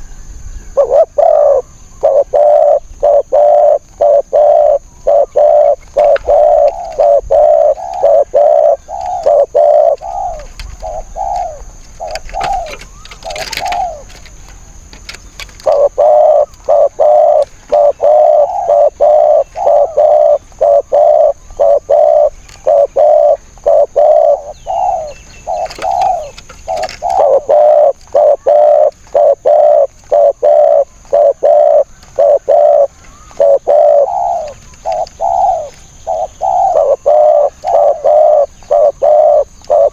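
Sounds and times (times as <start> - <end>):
doves cooing: 0.7 - 39.9.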